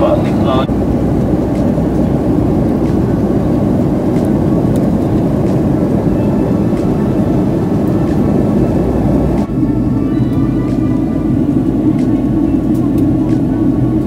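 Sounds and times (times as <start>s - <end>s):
jet engine cabin rush: 0.0s - 14.0s.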